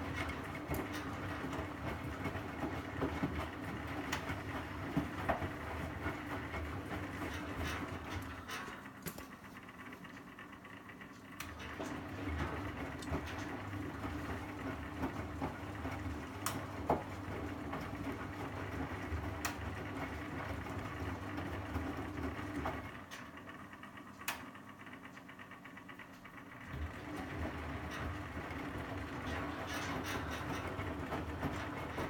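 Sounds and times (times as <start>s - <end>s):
washing machine drum motor hum: 0.0s - 32.0s.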